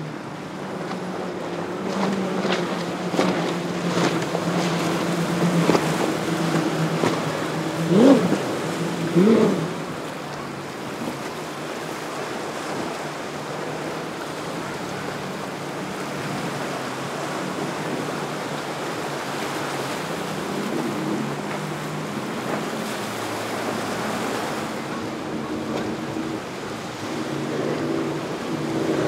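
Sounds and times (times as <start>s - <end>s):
powerboat engines humming: 0.0s - 29.0s
waves rushing: 0.0s - 29.0s
wind: 0.0s - 29.0s.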